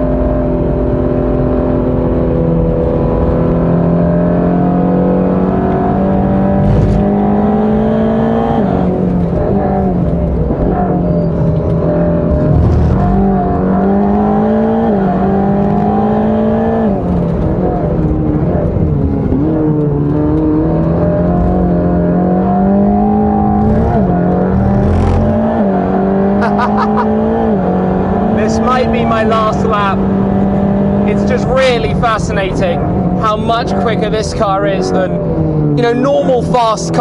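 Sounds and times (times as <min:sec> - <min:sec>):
sports car engine accelerating: 0:00.0 - 0:37.0.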